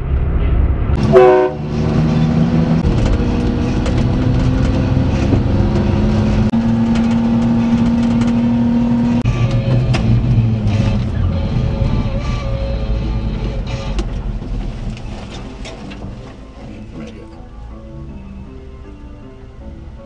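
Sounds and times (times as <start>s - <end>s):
small truck engine running: 1.0s - 17.4s.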